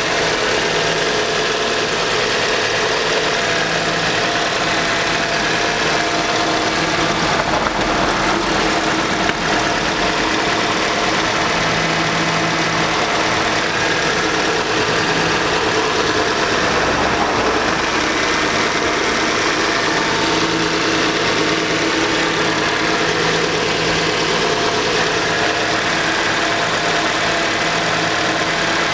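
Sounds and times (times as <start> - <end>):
car engine idling with knocking: 0.0 - 28.9.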